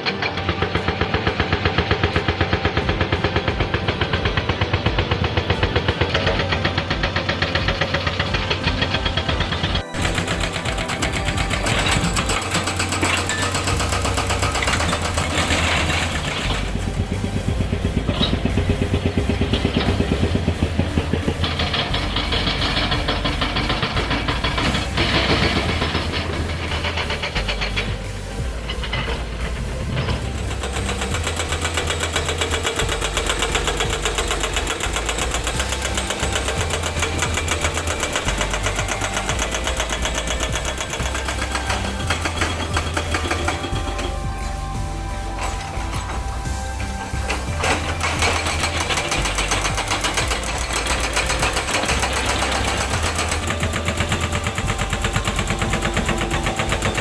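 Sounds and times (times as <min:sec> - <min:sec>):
diesel engine running under load: 0:00.0 - 0:57.0
hydraulic rock breaker hammering rock: 0:00.0 - 0:57.0.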